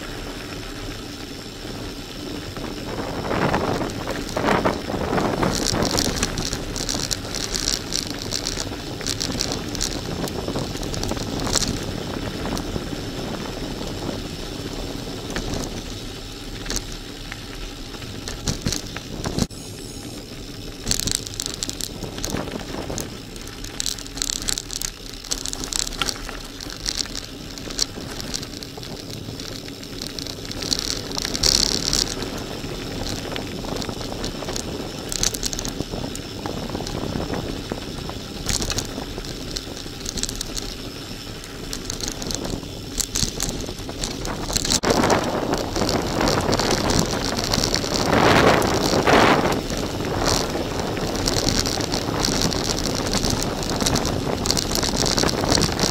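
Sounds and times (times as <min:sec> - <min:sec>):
bike clicking and rattling: 0:00.0 - 0:55.9
bike tyres crunching on gravel: 0:00.0 - 0:55.9
wind noise on microphone: 0:00.0 - 0:55.9.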